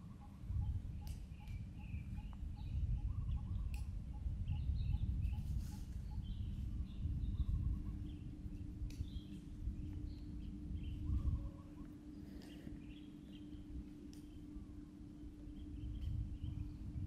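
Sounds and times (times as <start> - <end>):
birds chirping: 0.0 - 17.0
constant low rumble: 0.0 - 17.0.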